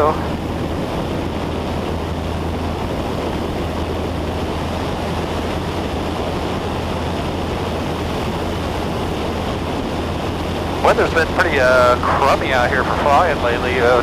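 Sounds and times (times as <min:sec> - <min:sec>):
constant low hum: 0:00.0 - 0:14.0
propeller plane engine drone: 0:00.0 - 0:14.0.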